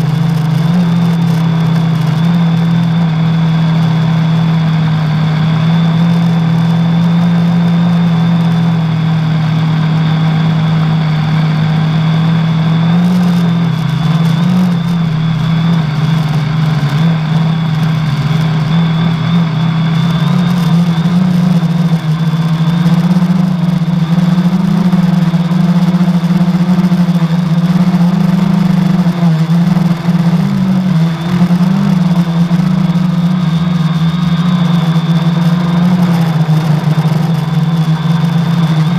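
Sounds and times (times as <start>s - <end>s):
drone motors buzzing: 0.0s - 38.9s.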